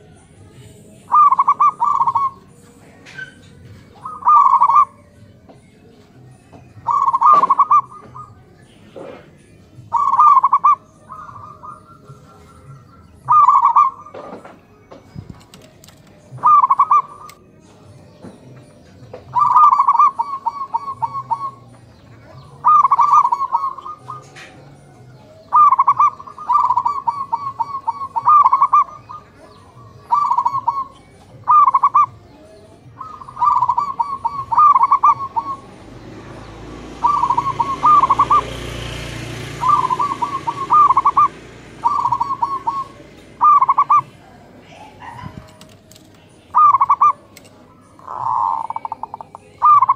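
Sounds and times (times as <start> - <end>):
doves cooing: 0.0 - 49.9
small birds chirping: 0.0 - 49.9.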